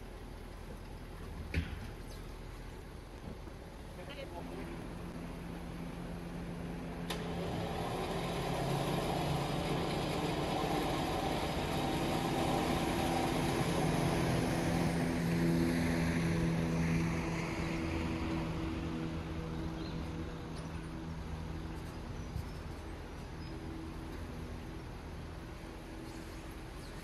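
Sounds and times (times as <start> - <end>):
motor running steadily: 4.1 - 27.0.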